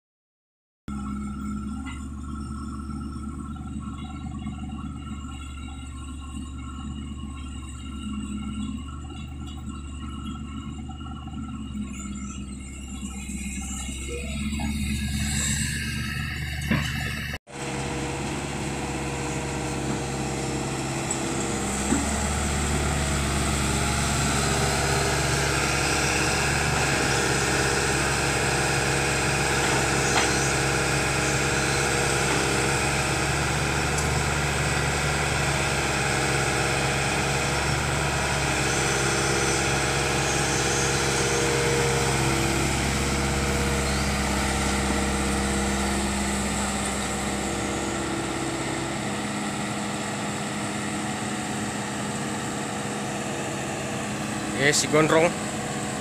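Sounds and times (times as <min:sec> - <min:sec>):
excavator diesel engine running: 0:00.9 - 0:56.0.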